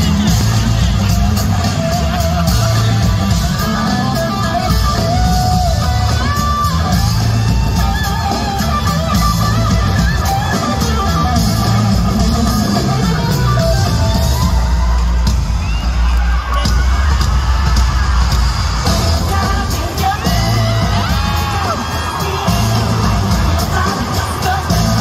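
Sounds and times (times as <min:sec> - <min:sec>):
loud live concert music: 0:00.0 - 0:25.0.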